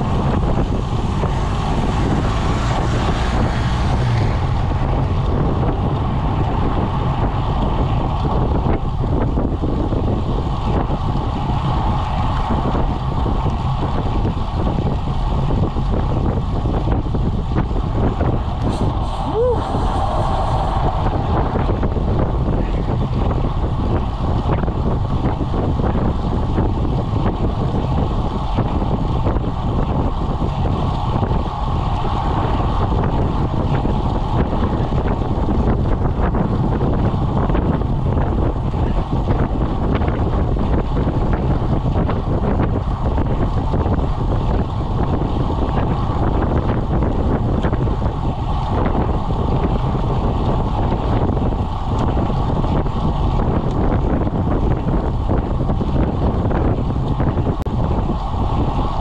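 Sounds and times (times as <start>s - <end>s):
road noise: 0.0s - 59.0s
wind on microphone: 0.0s - 59.0s.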